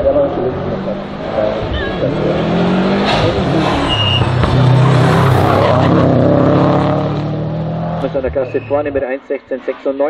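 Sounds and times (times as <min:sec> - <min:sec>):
race car engine at high revs: 0:00.0 - 0:08.4.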